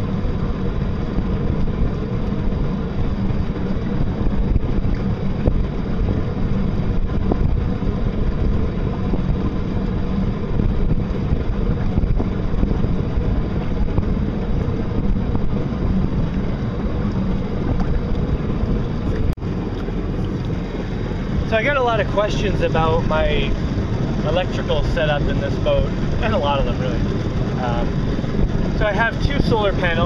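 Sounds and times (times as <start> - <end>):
water rushing past boat hull: 0.0 - 30.0
wind rumble on microphone: 0.0 - 30.0.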